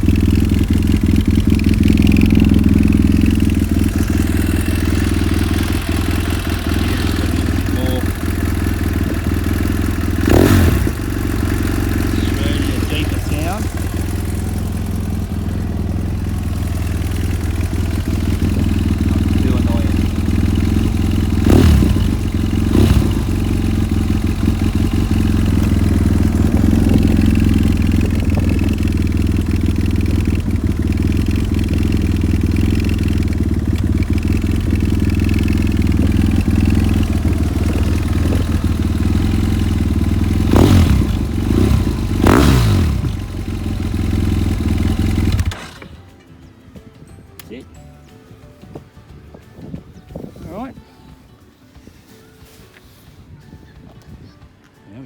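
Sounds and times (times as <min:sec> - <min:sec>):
motorcycle engine idling: 0:00.0 - 0:46.2.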